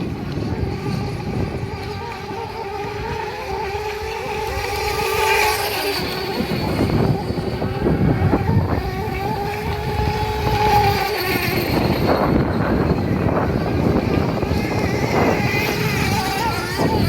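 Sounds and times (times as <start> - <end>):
model boat motor drone: 0.0 - 17.0
rough rushing noise: 0.0 - 17.0.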